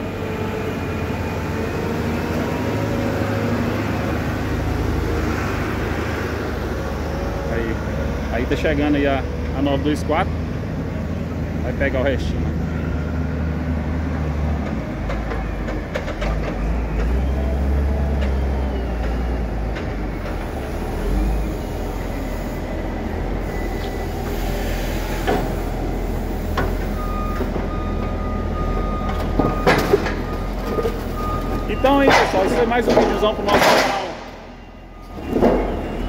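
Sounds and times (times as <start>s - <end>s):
diesel engines running: 0.0s - 36.0s.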